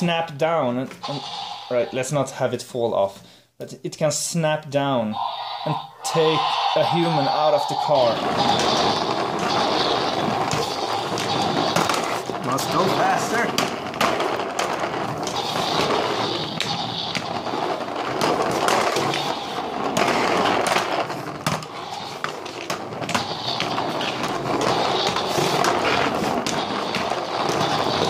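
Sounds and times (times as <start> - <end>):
toy wheels rolling on wooden floor: 0.9 - 2.3, 5.2 - 28.0.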